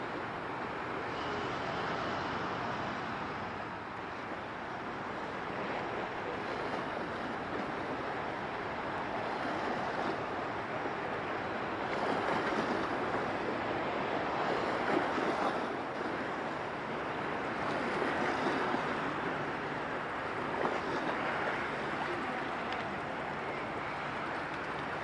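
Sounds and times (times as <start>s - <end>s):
waves washing: 0.0s - 25.0s
wind: 0.0s - 25.0s.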